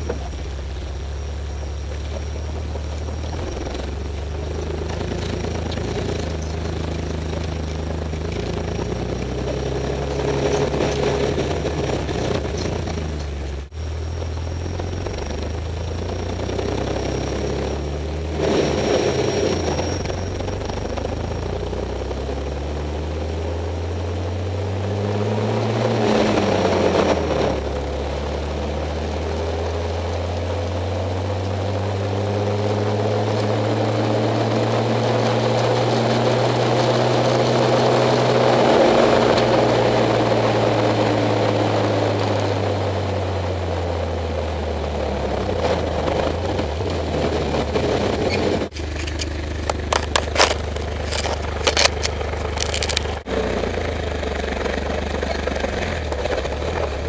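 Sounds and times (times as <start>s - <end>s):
vehicle drivetrain droning: 0.0s - 57.0s.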